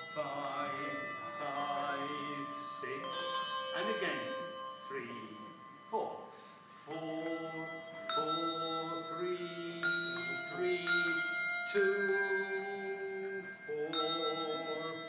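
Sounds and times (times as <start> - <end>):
handbells ringing: 0.0 - 15.0.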